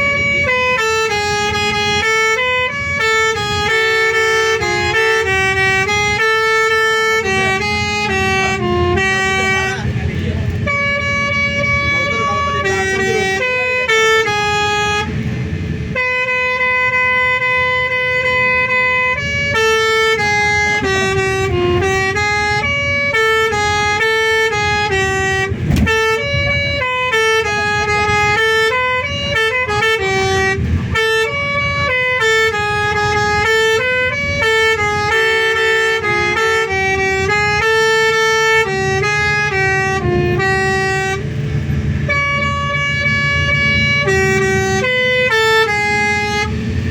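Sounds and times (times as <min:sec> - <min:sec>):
low engine rumble: 0:00.0 - 0:46.9
multi-tone bus horn melody: 0:00.0 - 0:46.9.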